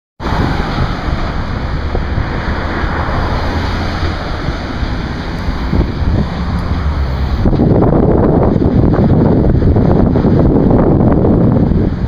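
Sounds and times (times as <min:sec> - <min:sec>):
road traffic passing: 0:00.2 - 0:12.0
wind rumbling on microphone: 0:00.2 - 0:12.0.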